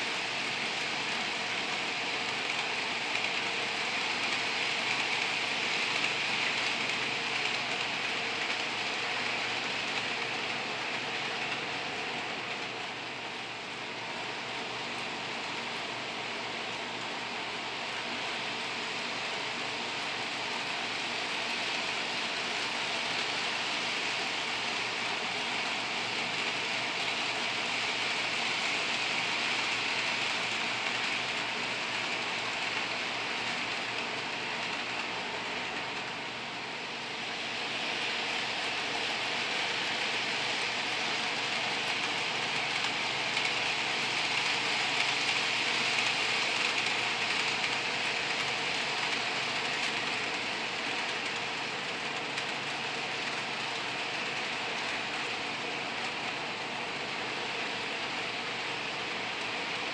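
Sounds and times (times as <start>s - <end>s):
model train motor whirring: 0.0s - 59.9s.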